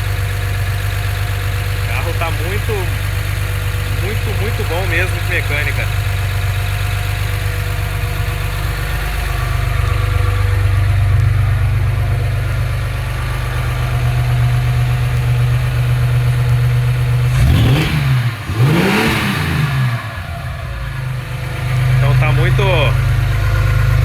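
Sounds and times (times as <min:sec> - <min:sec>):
car engine idling: 0:00.0 - 0:24.0
engine revving: 0:00.0 - 0:24.0.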